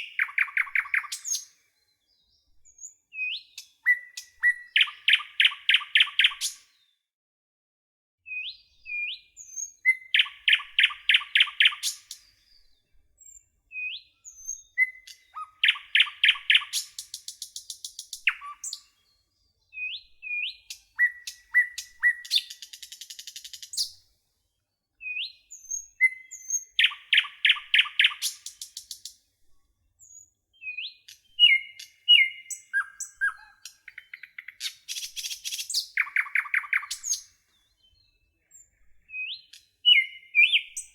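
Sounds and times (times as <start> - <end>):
high thin bird chirps: 0.0 - 1.6, 2.6 - 6.6, 8.4 - 19.1, 19.8 - 24.0, 25.1 - 29.2, 30.0 - 40.9
songbird trilling song: 0.0 - 6.9, 8.3 - 24.0, 24.9 - 29.2, 30.0 - 40.9.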